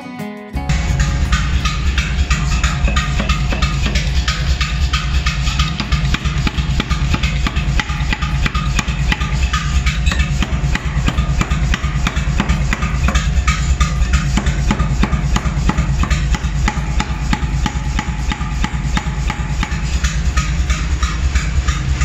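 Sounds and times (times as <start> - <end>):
low machine hum: 0.7 - 22.0
power hammer blows: 0.7 - 22.0.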